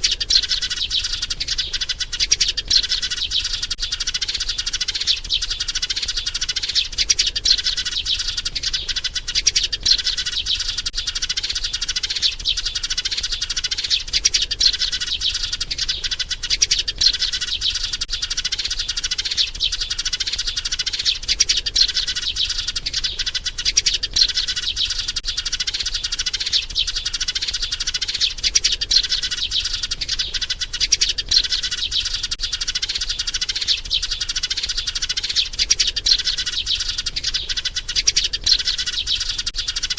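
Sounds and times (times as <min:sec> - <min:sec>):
sparrow chirping rapidly: 0:00.0 - 0:39.9.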